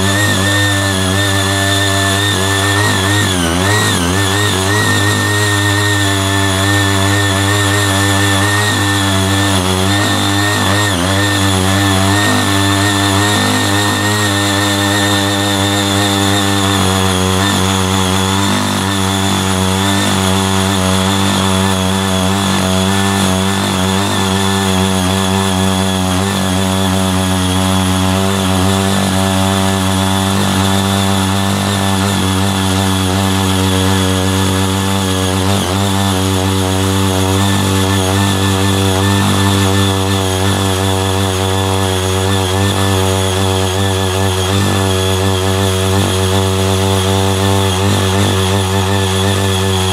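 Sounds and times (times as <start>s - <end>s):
small engine running under load: 0.0s - 49.9s
tilling blades churning soil: 0.0s - 49.9s.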